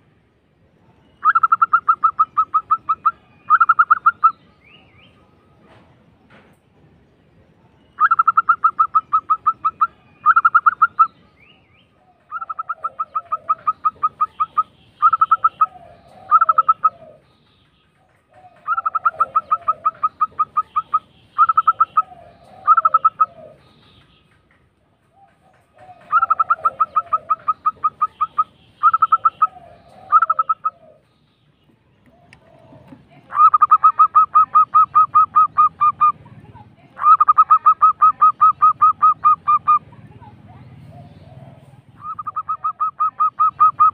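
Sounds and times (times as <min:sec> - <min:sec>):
dove cooing trills: 0:01.2 - 0:04.4, 0:08.0 - 0:11.3, 0:12.0 - 0:17.3, 0:18.0 - 0:23.8, 0:25.1 - 0:31.1, 0:32.0 - 0:43.9.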